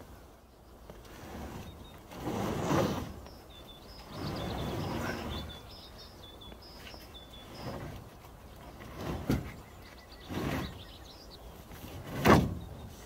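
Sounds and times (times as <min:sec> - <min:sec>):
bird chirping: 0:00.4 - 0:02.1, 0:03.2 - 0:13.0
wooden sheets scraping on beams: 0:00.9 - 0:05.7, 0:06.7 - 0:13.0.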